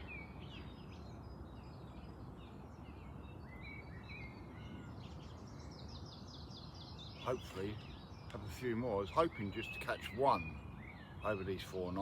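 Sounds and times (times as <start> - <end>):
small birds chirping and singing: 0.0 - 12.0.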